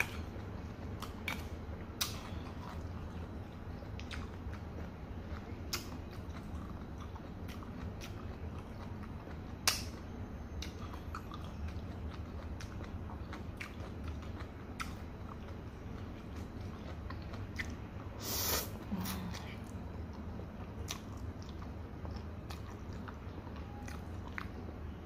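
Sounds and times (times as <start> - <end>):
steady low hum: 0.0 - 25.0
wet chewing: 0.0 - 25.0.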